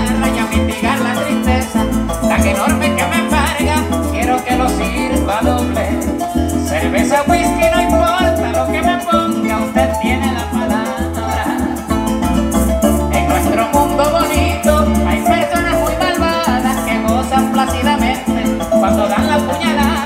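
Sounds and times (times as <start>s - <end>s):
man singing through a pa: 0.0s - 12.0s, 13.0s - 20.0s
cuatro strumming: 0.0s - 20.0s
electric bass: 0.0s - 20.0s
harp: 0.0s - 20.0s
maracas shaking: 0.0s - 20.0s.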